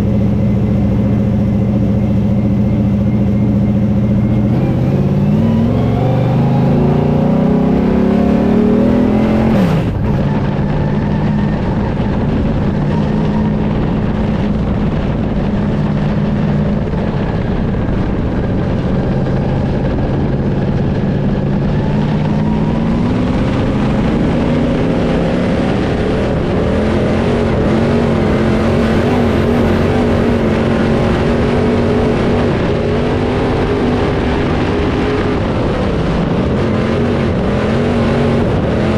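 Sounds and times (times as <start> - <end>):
race car engine revving: 0.9 - 38.9.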